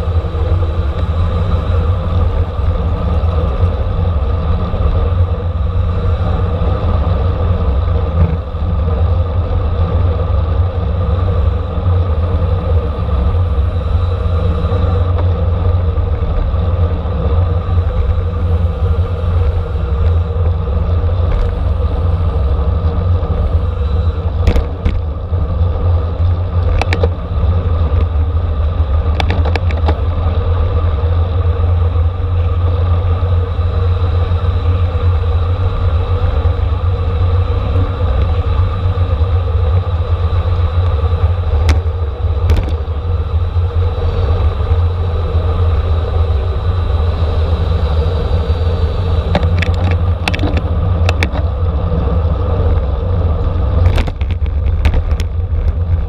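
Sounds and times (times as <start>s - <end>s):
road rumble: 0.0s - 56.0s
wind noise on microphone: 0.0s - 56.0s.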